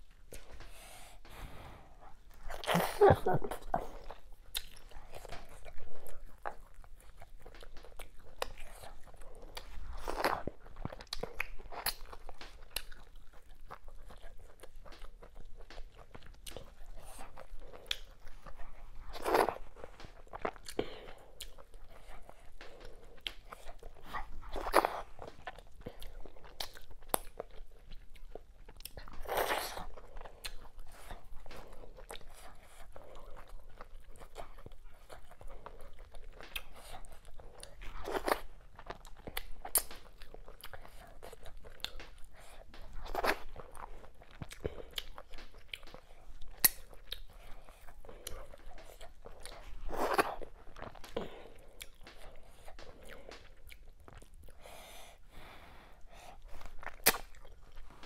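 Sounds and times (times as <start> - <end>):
wet chewing and lip smacking: 0.0 - 58.0.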